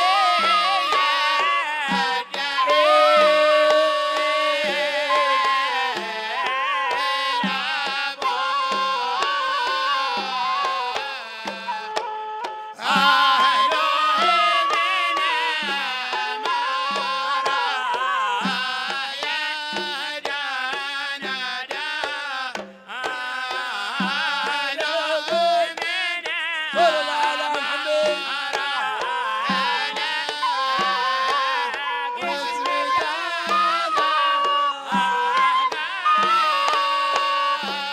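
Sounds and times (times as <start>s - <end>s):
person singing ornamented melody: 0.0s - 11.6s, 12.8s - 37.9s
hand drums beat: 0.0s - 37.9s.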